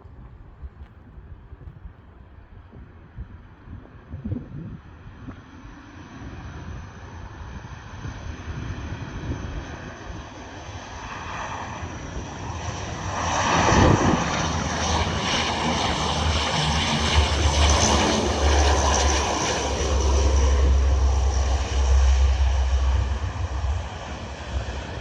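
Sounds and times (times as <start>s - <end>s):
aircraft engines deep rumble: 0.0s - 25.0s.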